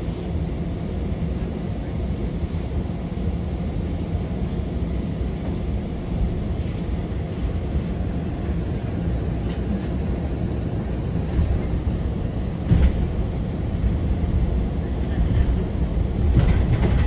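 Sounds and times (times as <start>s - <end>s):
bus rumble from inside: 0.0s - 17.0s.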